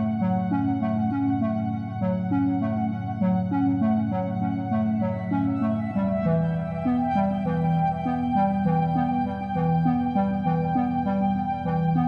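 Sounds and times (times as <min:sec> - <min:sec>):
keyboard melody with accompaniment: 0:00.0 - 0:12.0.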